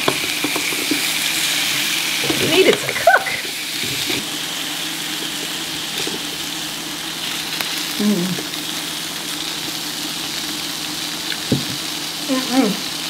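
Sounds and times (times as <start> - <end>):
fish sizzling on a grill: 0.0 - 13.0.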